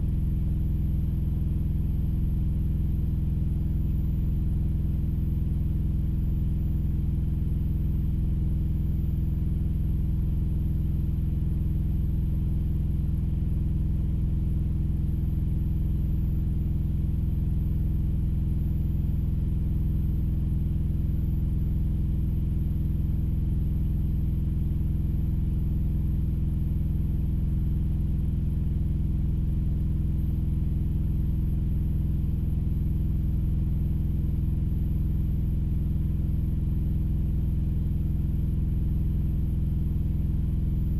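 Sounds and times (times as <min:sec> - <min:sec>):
engine idling inside cab: 0:00.0 - 0:40.9.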